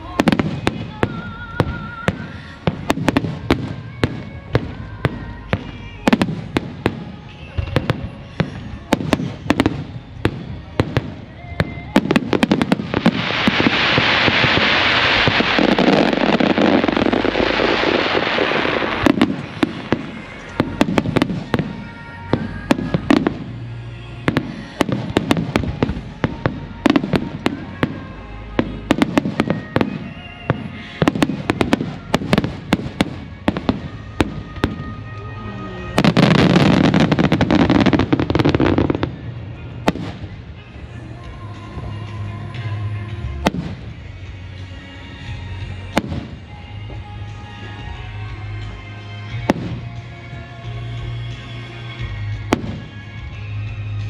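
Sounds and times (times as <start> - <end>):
fireworks bursts and bangs: 0.0 - 48.0, 48.8 - 54.0.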